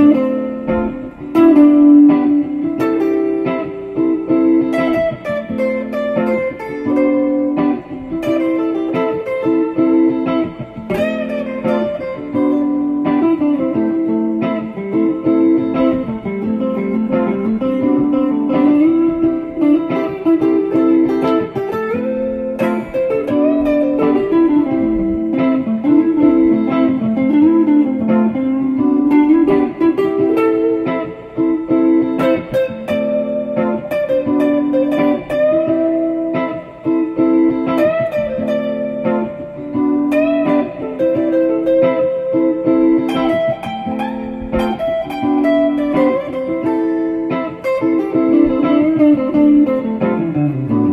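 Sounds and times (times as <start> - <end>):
plucked guitar melody: 0.0 - 50.9.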